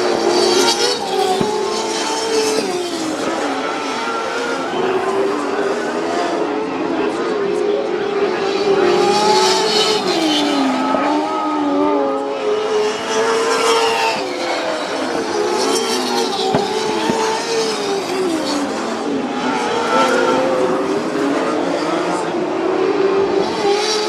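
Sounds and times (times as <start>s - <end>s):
racing car engines revving: 0.0s - 24.0s.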